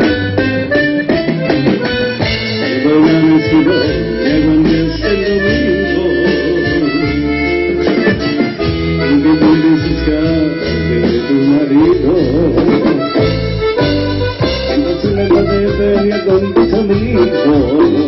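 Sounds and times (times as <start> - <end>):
accordion melody: 0.0 - 18.0
bass line: 0.0 - 18.0.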